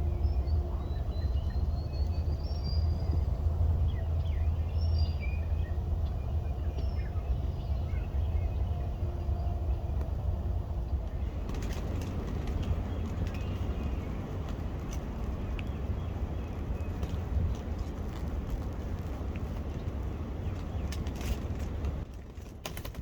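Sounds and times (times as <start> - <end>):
small birds chirping: 0.0 - 22.1
low outdoor rumble: 0.0 - 23.0.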